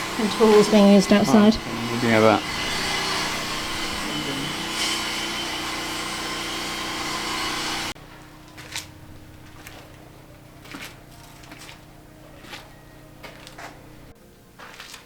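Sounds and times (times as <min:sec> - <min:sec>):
power tools whining: 0:00.0 - 0:14.2.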